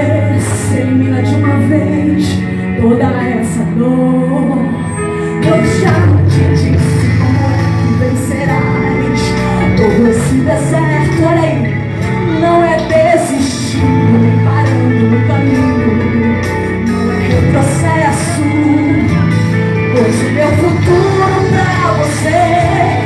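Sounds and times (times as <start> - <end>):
backing music with held chords: 0.0 - 23.0
woman singing into microphone: 0.0 - 23.0.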